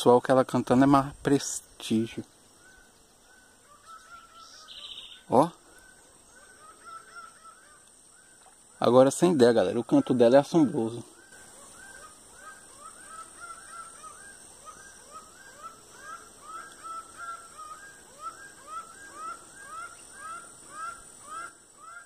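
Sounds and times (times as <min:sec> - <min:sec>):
falcon calling: 0:02.6 - 0:08.9, 0:09.8 - 0:22.0.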